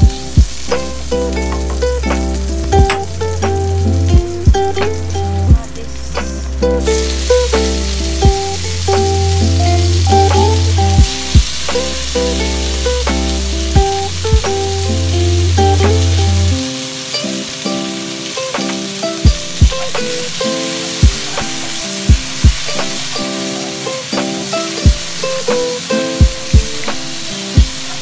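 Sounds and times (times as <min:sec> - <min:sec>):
background music with plucked melody: 0:00.0 - 0:28.0
vegetables sizzling in a wok: 0:00.0 - 0:28.0.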